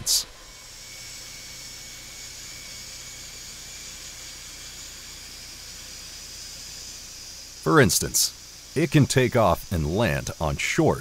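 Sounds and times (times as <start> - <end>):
turboprop engines hissing and whining: 0.0 - 11.0.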